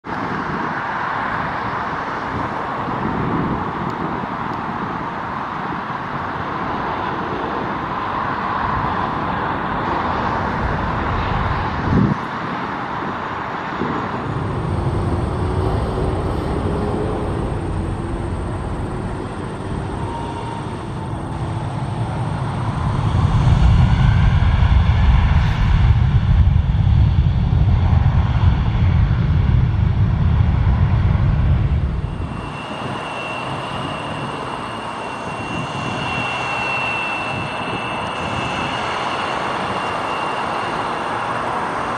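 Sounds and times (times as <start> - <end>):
turboprop plane droning: 0.0 - 41.9
jet engines rumbling: 0.1 - 41.9.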